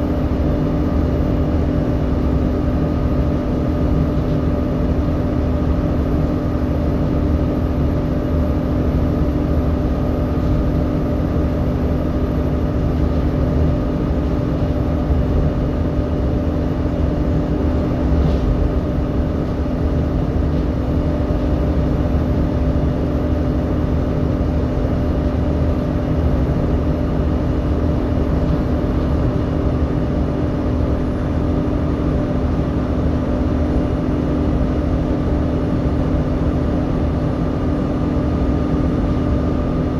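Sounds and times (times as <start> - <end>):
bus engine drone: 0.0 - 39.9
engine cooling fan whine: 0.0 - 39.9.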